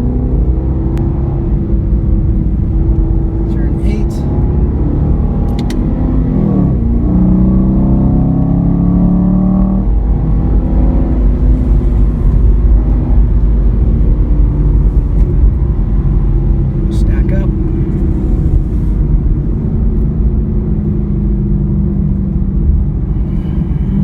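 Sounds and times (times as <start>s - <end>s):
car engine running at speed: 0.0s - 24.0s
road and wind noise: 0.0s - 24.0s.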